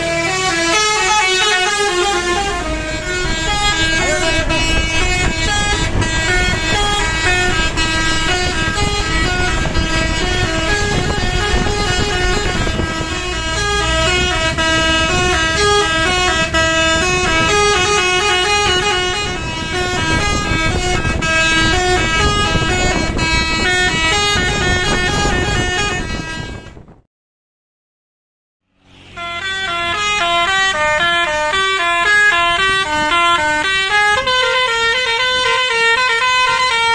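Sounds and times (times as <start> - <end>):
bus horn playing a melody: 0.0 - 27.0, 28.9 - 36.9
low rumble of engines and traffic: 0.0 - 27.0, 28.6 - 36.9.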